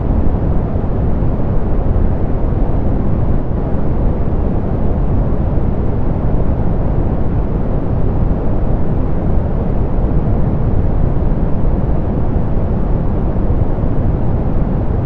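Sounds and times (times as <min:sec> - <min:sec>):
low rumbling pink noise: 0:00.0 - 0:15.0.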